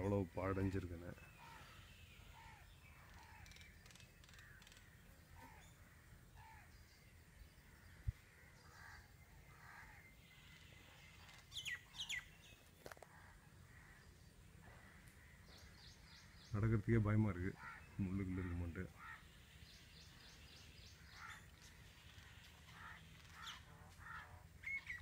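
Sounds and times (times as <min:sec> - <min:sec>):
faint bird calls: 0:00.3 - 0:25.0
sharp falling bird calls: 0:01.2 - 0:06.8, 0:07.7 - 0:16.6, 0:17.5 - 0:25.0.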